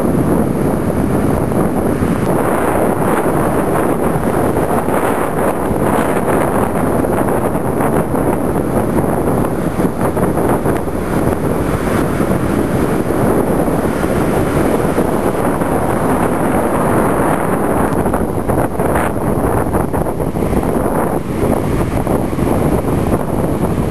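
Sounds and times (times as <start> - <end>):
breaking surf: 0.0 - 23.9
wind buffeting the microphone: 0.0 - 23.9.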